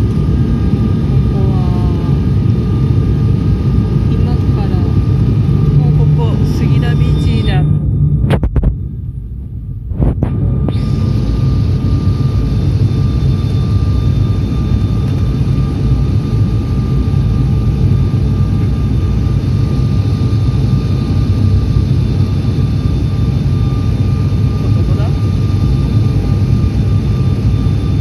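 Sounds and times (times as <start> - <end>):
turboprop engines droning in cabin: 0.0 - 28.0.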